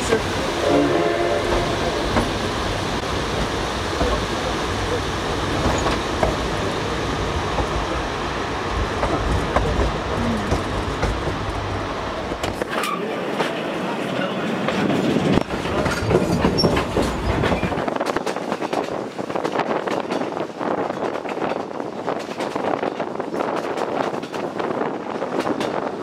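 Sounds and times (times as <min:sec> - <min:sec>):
train wheel and running noise: 0:00.0 - 0:26.0.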